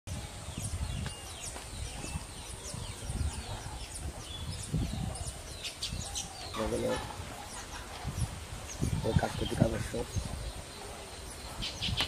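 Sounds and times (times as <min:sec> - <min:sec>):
weaver birds chattering: 0:00.1 - 0:12.0.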